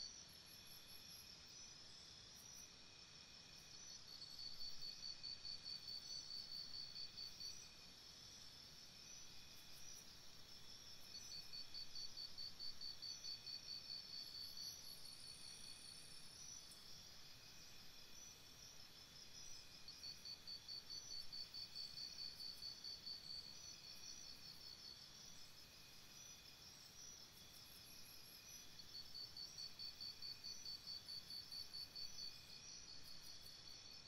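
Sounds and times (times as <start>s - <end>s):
insects chirping: 0.0s - 34.0s.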